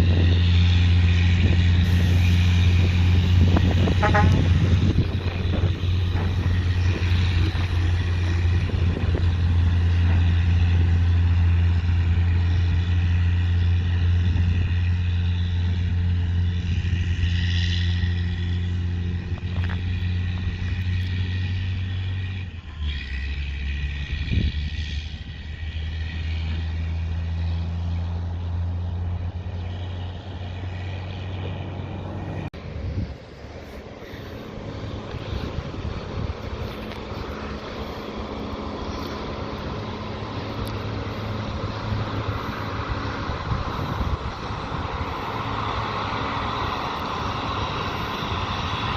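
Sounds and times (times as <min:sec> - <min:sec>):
truck diesel engine droning: 0:00.0 - 0:48.9.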